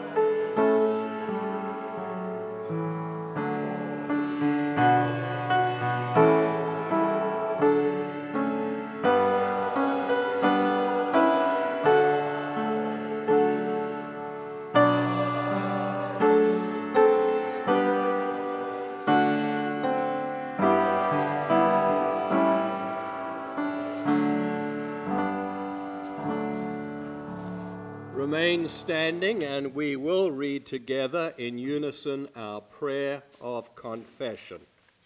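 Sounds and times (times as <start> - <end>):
piano playing slow chords: 0.0 - 29.6.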